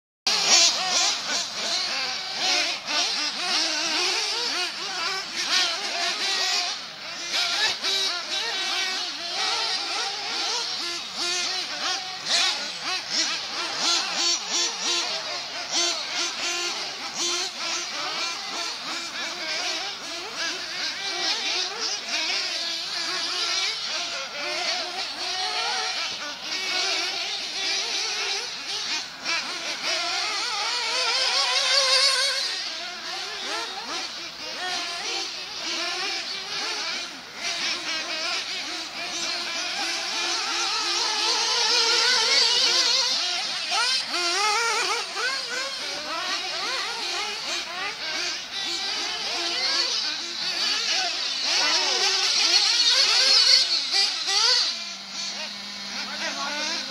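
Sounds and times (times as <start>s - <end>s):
rc car engines buzzing: 0.3s - 56.9s.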